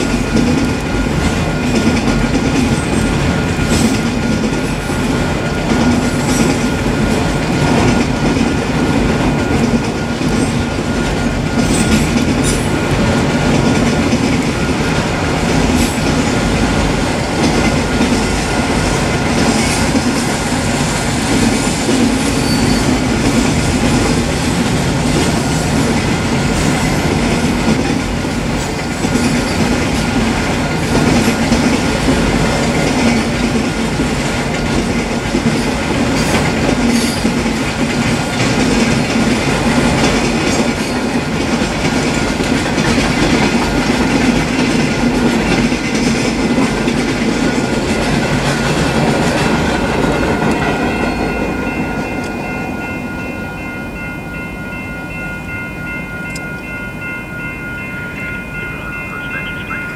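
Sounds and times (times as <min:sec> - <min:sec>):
crossing warning bell ringing: 0:00.0 - 0:59.9
freight train rolling past: 0:00.0 - 0:59.9
steel wheels on rail: 0:00.0 - 0:59.9.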